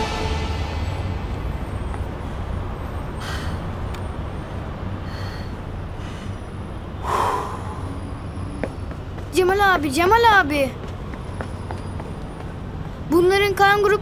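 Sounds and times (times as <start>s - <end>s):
low vehicle rumble: 0.0s - 13.1s.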